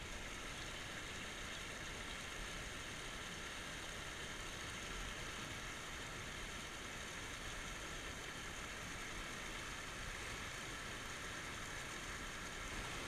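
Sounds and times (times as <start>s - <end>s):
water spilling over a weir: 0.0s - 13.0s.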